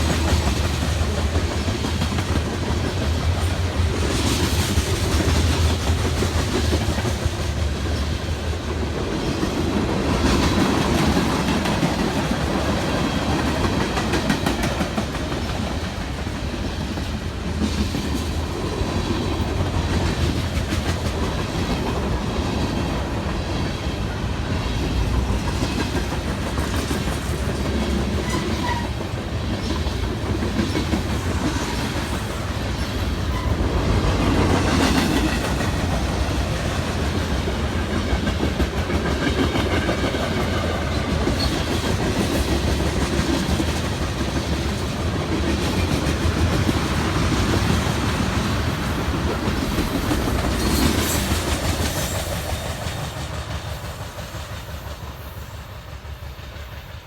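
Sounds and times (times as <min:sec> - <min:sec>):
freight train rumble: 0:00.0 - 0:57.0
train wheels clicking over rail joints: 0:00.0 - 0:57.0.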